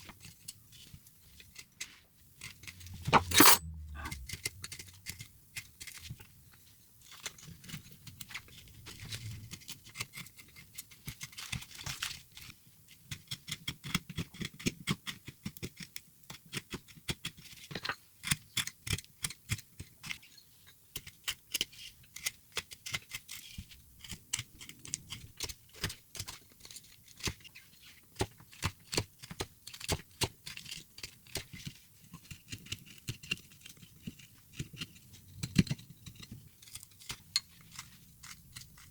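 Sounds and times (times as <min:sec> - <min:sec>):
carving tools chipping wood: 0:00.0 - 0:06.3, 0:09.4 - 0:12.3, 0:12.9 - 0:20.2, 0:20.9 - 0:38.9.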